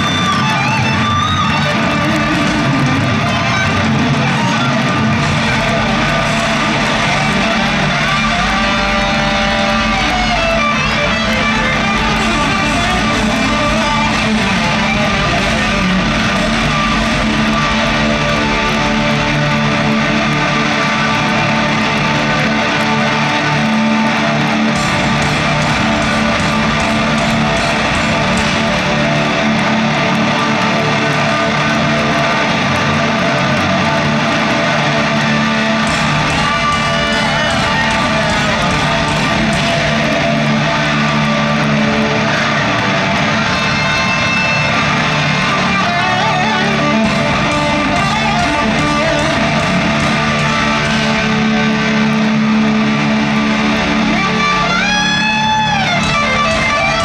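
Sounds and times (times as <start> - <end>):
distorted electric guitars: 0.0 - 57.0
hard rock band playing live: 0.0 - 57.0.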